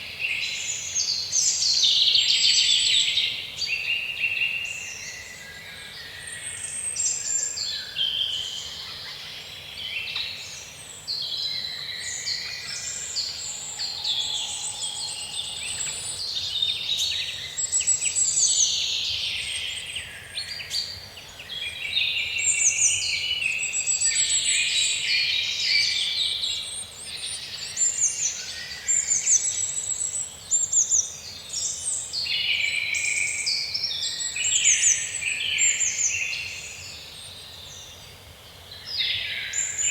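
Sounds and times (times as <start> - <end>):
songbirds whistling and trilling: 0.2 - 38.0.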